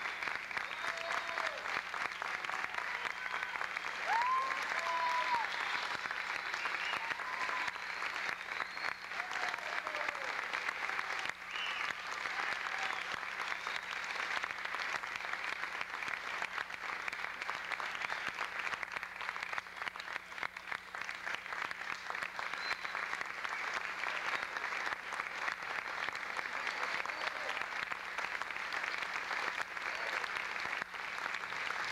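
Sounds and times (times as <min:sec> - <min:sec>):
audience applauding: 0:00.0 - 0:31.9.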